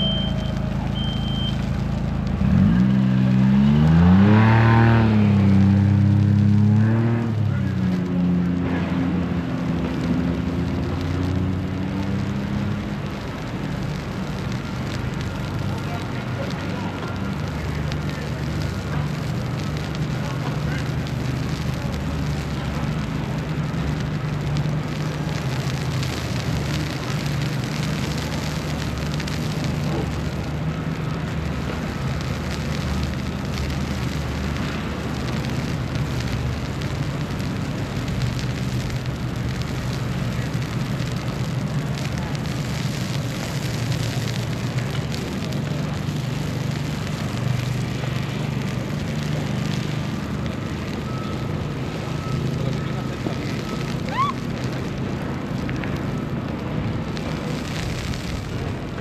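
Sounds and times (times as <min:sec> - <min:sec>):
low city rumble: 0:00.0 - 0:59.0
even hiss: 0:08.5 - 0:58.6.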